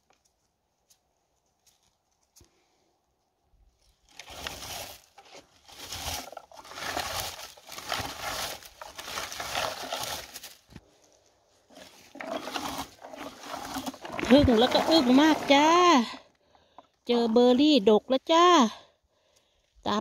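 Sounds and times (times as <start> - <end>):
rustling and crunching in undergrowth: 0.0 - 16.4.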